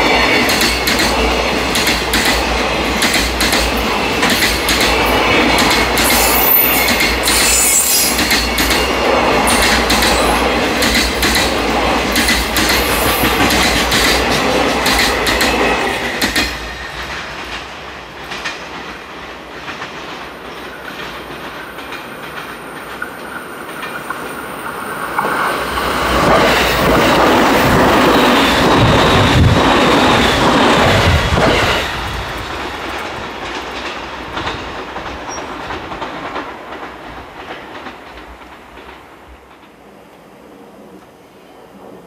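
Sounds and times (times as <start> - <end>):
train passing: 0.0 - 42.0.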